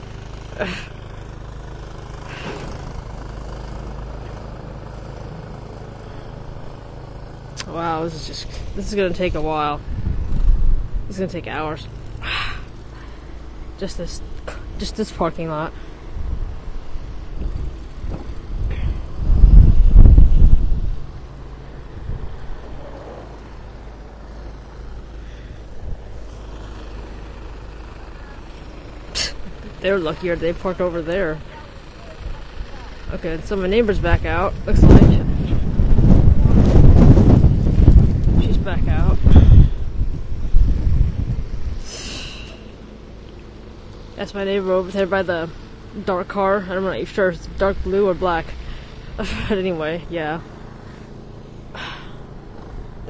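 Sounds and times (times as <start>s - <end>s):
outdoor noise: 0.0s - 53.0s
vehicle engine rumbling: 0.0s - 53.0s.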